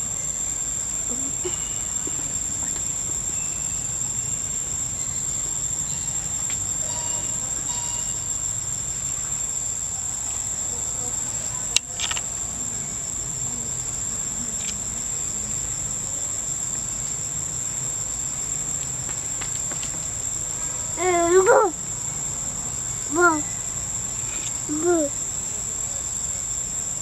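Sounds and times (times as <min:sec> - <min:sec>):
forest insects droning: 0:00.0 - 0:27.0.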